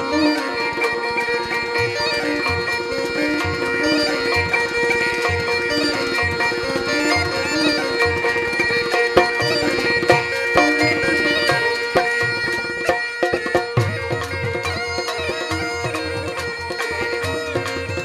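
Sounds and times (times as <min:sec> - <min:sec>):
folk string instrument: 0:00.0 - 0:18.0
wind instrument drone: 0:00.0 - 0:18.0.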